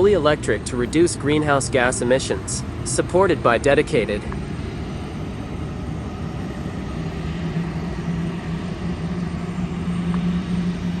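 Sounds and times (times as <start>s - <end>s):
low steady hum: 0.0s - 11.0s
machinery rumbling: 0.0s - 11.0s.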